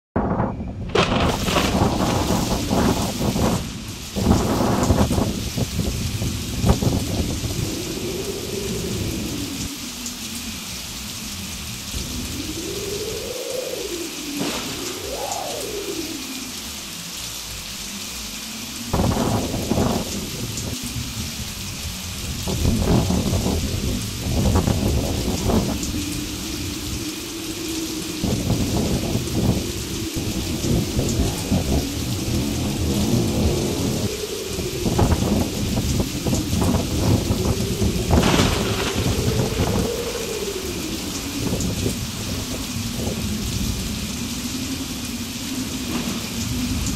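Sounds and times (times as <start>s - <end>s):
low thunder rumble: 0.2s - 46.9s
steady rain hiss: 0.2s - 46.9s.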